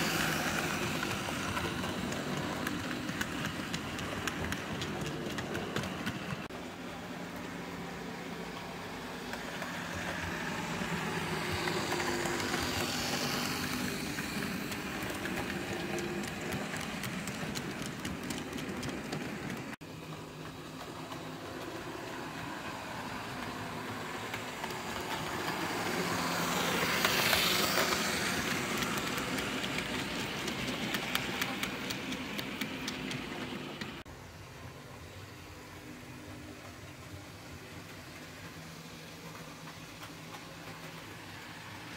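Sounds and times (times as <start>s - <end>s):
wheels clicking over rail joints: 0.0s - 6.6s, 9.2s - 34.1s, 36.6s - 41.9s
model train motor humming: 0.0s - 41.9s.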